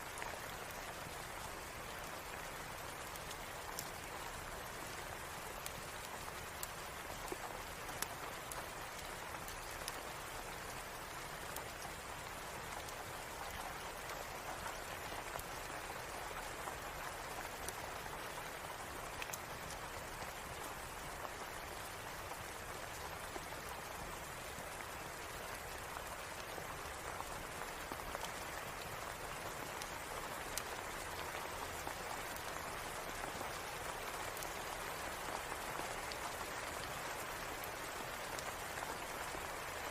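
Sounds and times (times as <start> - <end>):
raindrop ticks: 0.0 - 39.9
steady rain hiss: 0.0 - 39.9.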